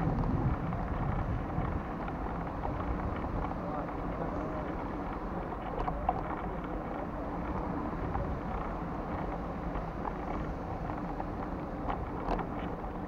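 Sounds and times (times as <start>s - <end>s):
road traffic hum: 0.0s - 13.0s
wind rumbling on microphone: 0.0s - 13.0s
faint clicks: 0.2s - 13.0s.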